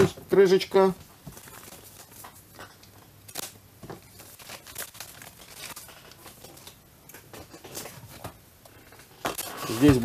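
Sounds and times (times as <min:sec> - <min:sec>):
plastic bag crinkling: 0:01.2 - 0:08.2, 0:08.8 - 0:10.0.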